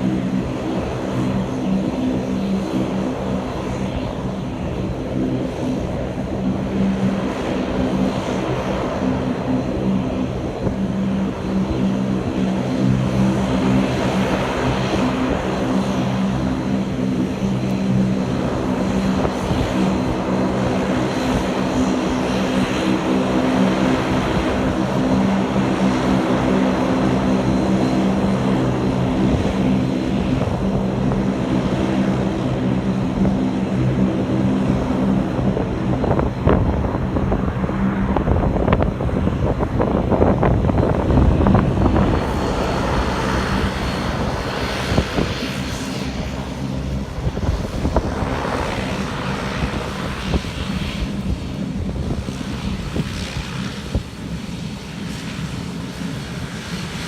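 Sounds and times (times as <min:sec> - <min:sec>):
aircraft engines droning: 0:00.0 - 0:57.0
wind buffeting microphone: 0:00.0 - 0:57.0.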